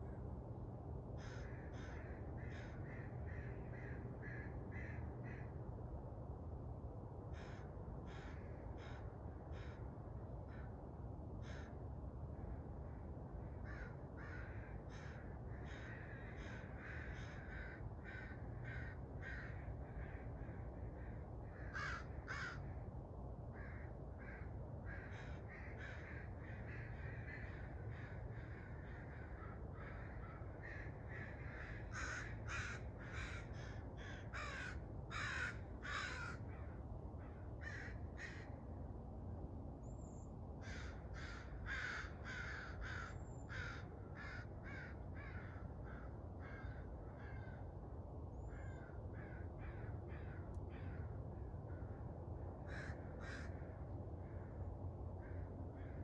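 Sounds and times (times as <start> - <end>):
low background rumble: 0.0 - 56.0
crows cawing: 1.2 - 5.6, 7.3 - 10.8, 11.4 - 11.8, 12.9 - 22.8, 23.5 - 38.6, 40.6 - 47.7, 48.4 - 52.0, 52.6 - 54.6, 55.2 - 56.0.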